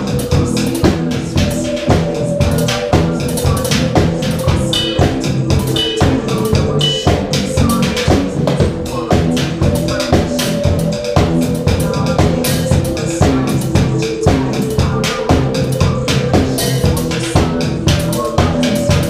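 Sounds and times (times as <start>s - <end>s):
drum kit steady beat: 0.0s - 19.0s
rock band playing live: 0.0s - 19.0s.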